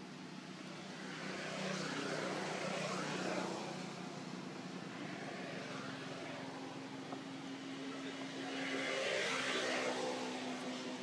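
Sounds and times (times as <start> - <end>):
passing vehicle engine drone: 0.7 - 11.0.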